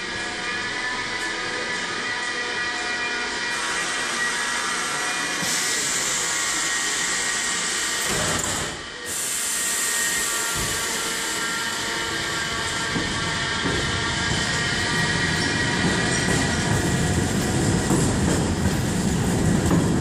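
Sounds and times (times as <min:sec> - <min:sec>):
train motors and wheels rumbling: 0:00.0 - 0:20.0
train hissing: 0:03.3 - 0:20.0.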